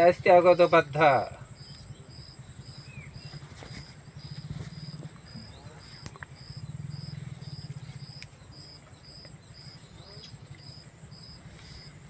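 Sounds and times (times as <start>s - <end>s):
cricket chirping: 0.0s - 12.0s
high-pitched insect whine: 0.0s - 12.0s.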